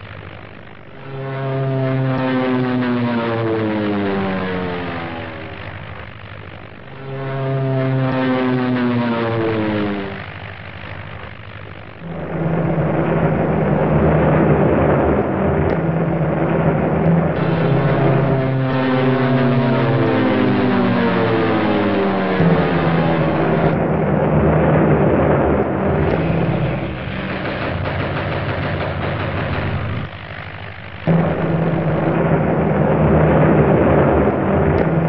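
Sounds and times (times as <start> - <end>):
propeller aircraft engine drone: 0.0 - 35.0.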